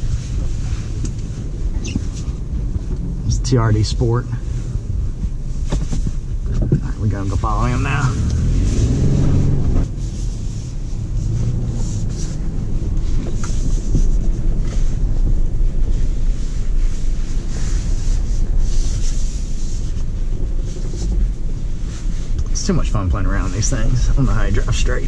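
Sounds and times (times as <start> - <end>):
vehicle engine and tyres rumbling: 0.0 - 25.0.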